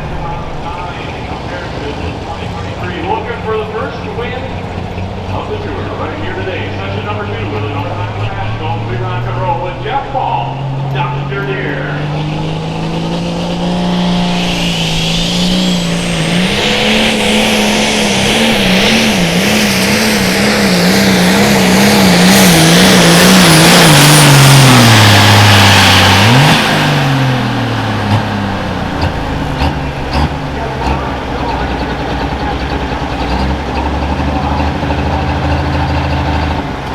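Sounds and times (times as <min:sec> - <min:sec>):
diesel tractor engine under load: 0:00.0 - 0:36.9.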